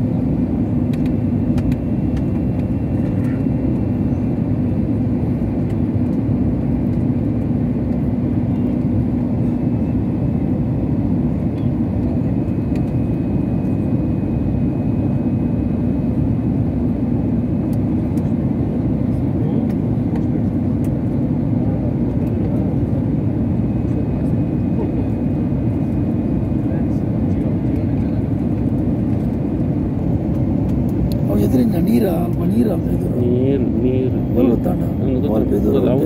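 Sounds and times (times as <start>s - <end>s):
airliner cabin engine noise: 0.0s - 36.0s.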